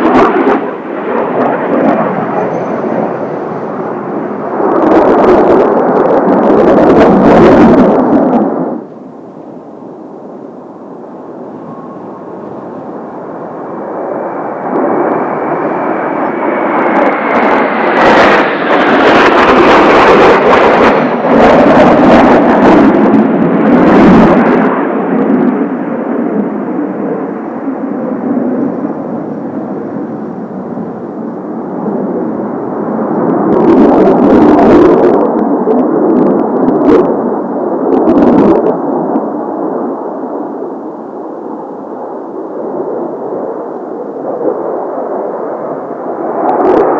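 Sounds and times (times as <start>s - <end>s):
falling engine whine: 0.0s - 41.3s
jet roar: 0.0s - 46.9s.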